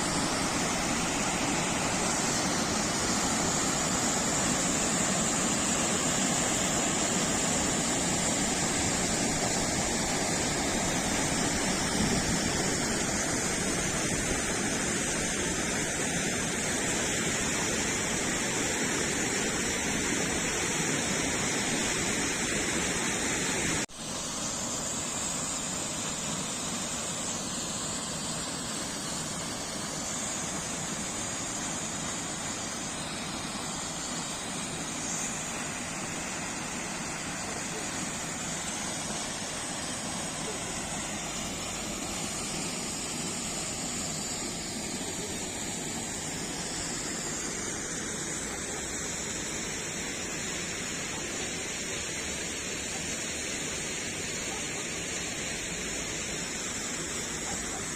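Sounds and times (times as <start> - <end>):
falling water rushing: 0.0 - 57.9.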